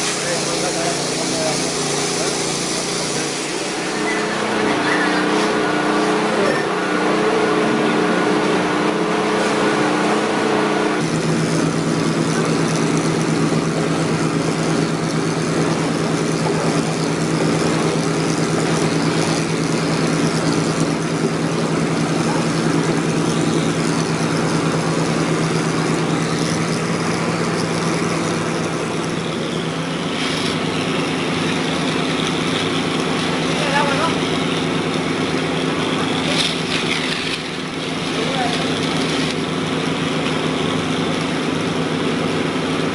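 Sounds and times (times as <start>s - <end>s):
machine engine running: 0.0s - 42.9s.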